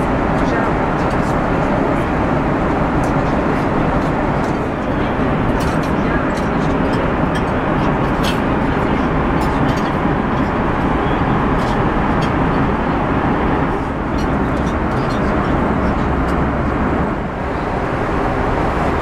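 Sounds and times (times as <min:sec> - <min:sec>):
airplane cabin engine noise: 0:00.0 - 0:19.0.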